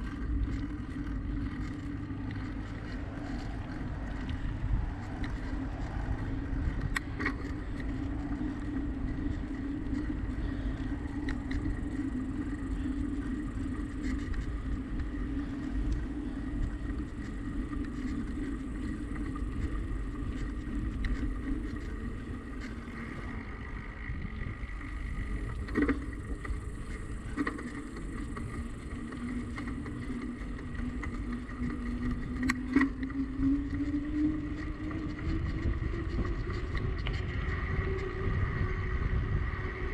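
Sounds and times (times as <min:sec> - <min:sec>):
constant hum: 0:00.0 - 0:39.9
sharp clicks from bumps: 0:00.0 - 0:39.9
wind and tyres on pavement: 0:00.0 - 0:39.9.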